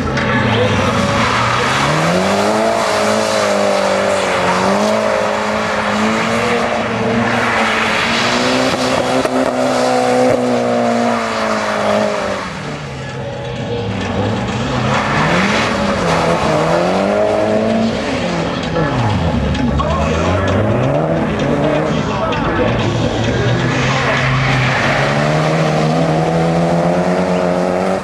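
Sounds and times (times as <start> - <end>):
car engine revving hard: 0.5 - 13.0, 14.0 - 28.0.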